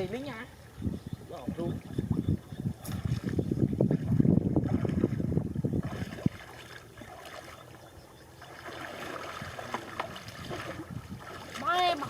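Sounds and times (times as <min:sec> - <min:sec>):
water and mud sloshing: 0:00.0 - 0:12.0
water trickling: 0:00.0 - 0:12.0.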